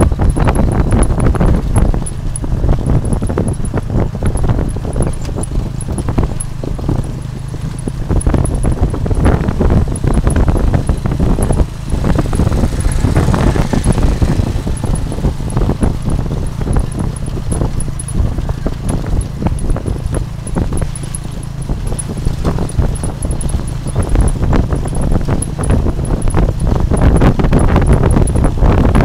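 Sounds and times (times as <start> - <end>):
carriage rattling over road: 0.0 - 29.0
motorcycle engine cruising: 0.0 - 29.0.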